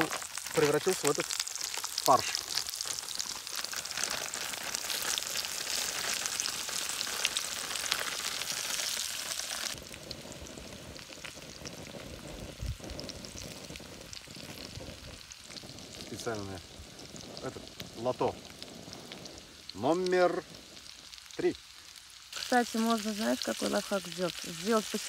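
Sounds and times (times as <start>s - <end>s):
potatoes sizzling in a pan: 0.0s - 25.0s.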